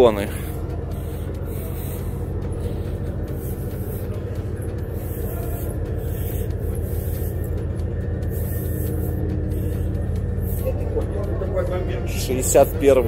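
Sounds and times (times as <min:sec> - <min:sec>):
train engine drone: 0:00.0 - 0:13.0.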